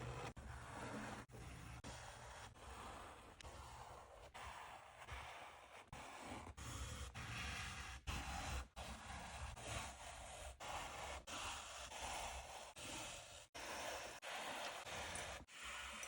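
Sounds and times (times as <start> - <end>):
rubbing on leather glove: 0.6 - 16.0.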